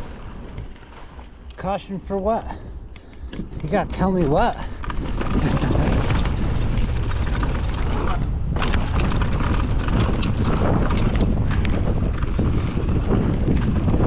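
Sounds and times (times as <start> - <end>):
bike clattering over rough trail: 0.0 - 14.0
low rumble: 0.0 - 14.0
wind buffeting microphone: 0.0 - 14.0.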